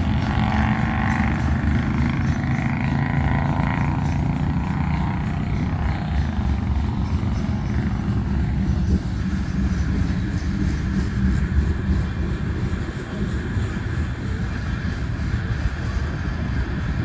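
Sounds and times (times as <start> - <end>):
rumble of train wheels on rail: 0.0 - 17.0.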